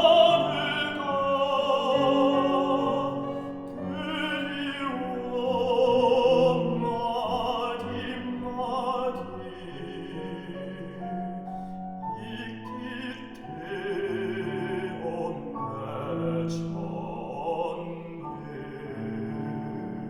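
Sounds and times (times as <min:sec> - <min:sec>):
baritone singing with vibrato: 0:00.0 - 0:20.0.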